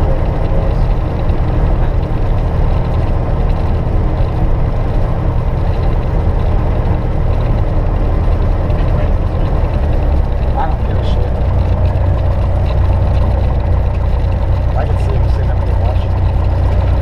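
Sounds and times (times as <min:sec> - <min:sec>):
airplane engine droning: 0:00.0 - 0:17.0.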